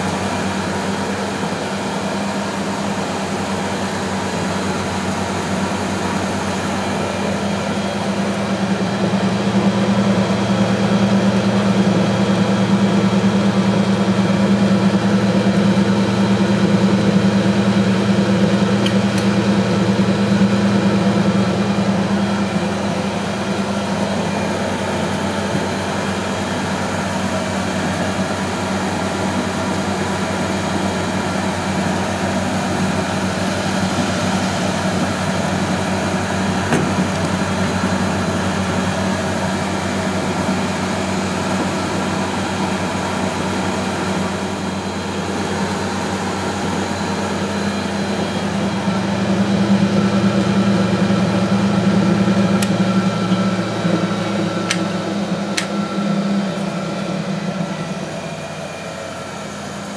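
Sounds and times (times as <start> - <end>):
washing machine drum spinning: 0.0 - 59.9.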